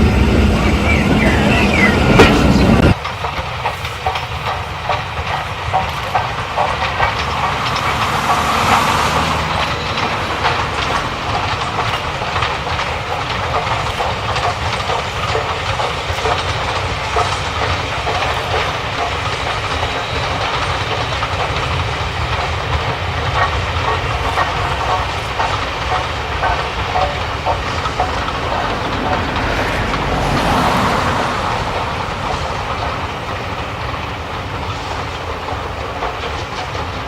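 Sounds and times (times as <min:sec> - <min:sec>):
steam hissing: 0:00.0 - 0:37.0
steam train running: 0:00.0 - 0:37.0
wheels clicking over rail joints: 0:00.0 - 0:37.0.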